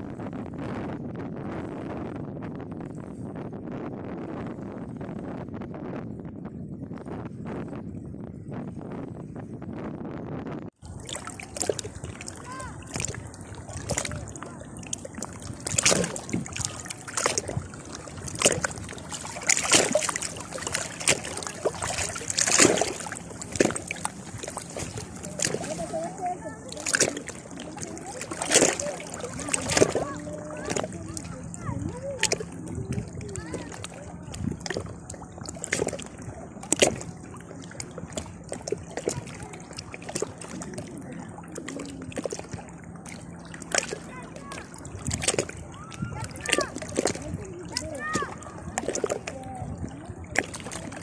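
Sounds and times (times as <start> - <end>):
sea water splashing and sloshing: 0.0 - 51.0
steady low hum: 0.0 - 51.0.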